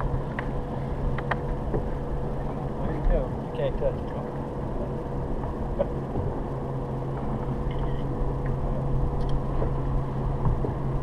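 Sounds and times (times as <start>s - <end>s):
boat motor humming: 0.0s - 11.0s
faint whine: 0.0s - 11.0s.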